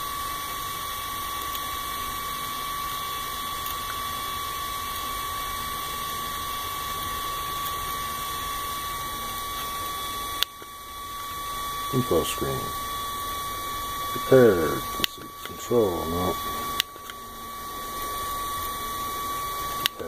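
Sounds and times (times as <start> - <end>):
thin whine: 0.0 - 20.0.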